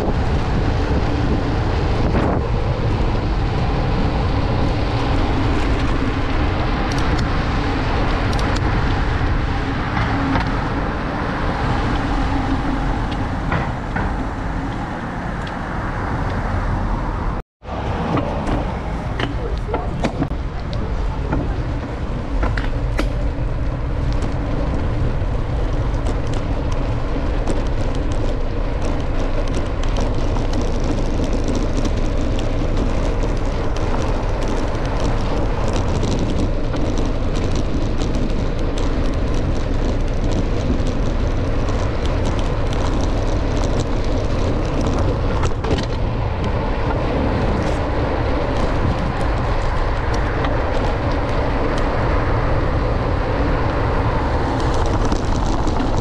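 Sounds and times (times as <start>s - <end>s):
wind rushing: 0.0s - 19.2s, 19.9s - 56.0s
road noise low rumble: 0.0s - 56.0s.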